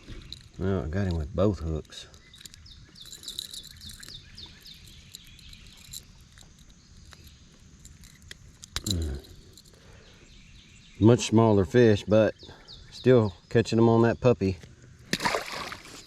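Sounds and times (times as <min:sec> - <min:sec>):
bird chirping: 0:00.0 - 0:14.8.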